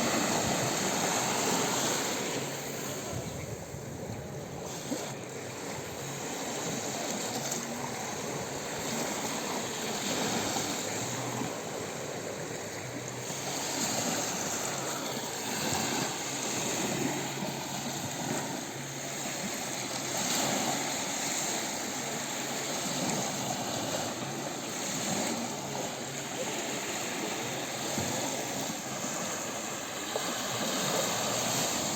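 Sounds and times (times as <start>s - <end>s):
sea waves washing onto beach: 0.0s - 31.9s.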